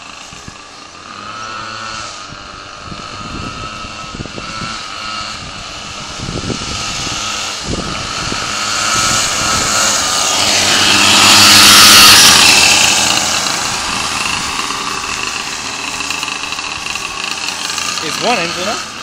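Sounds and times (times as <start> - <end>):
two-stroke engines whining: 0.0 - 19.0
wind buffeting microphone: 0.1 - 18.3.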